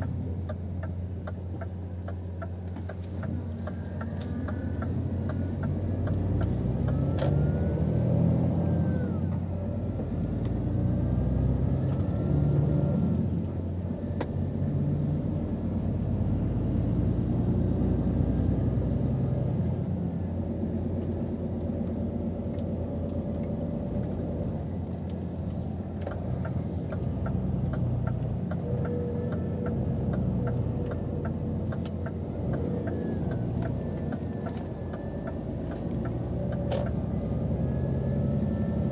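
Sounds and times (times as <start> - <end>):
truck diesel engine rumble: 0.0 - 38.9.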